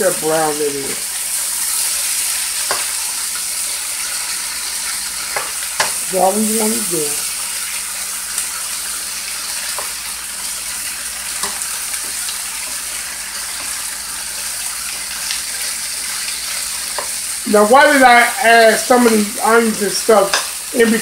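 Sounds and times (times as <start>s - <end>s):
meat sizzling in a skillet: 0.0s - 21.0s.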